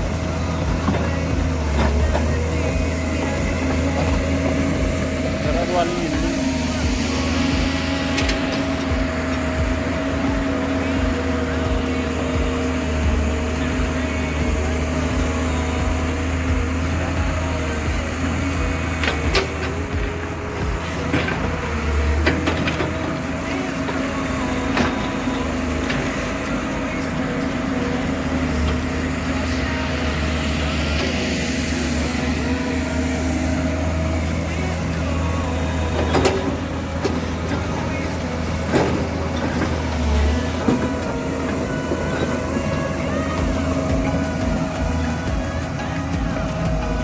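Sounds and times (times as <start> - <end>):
excavator bucket clanks: 0.0 - 47.0
excavator diesel engine running: 0.0 - 47.0.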